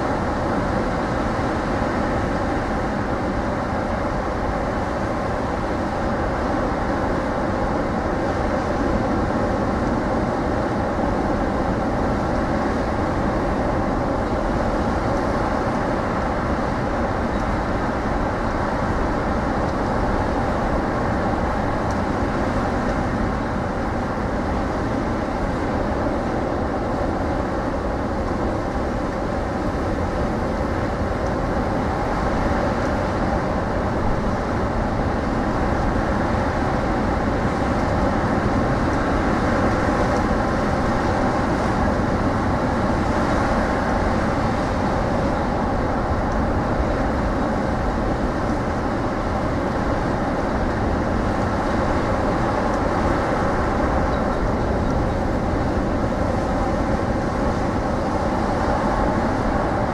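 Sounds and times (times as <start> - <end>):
wind rumble on microphone: 0.0 - 59.9
storm surf breaking: 11.1 - 59.9.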